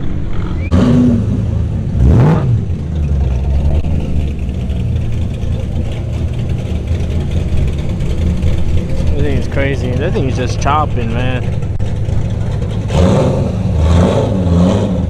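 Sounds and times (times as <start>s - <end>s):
car engine idling with lumpy lope: 0.0s - 15.0s.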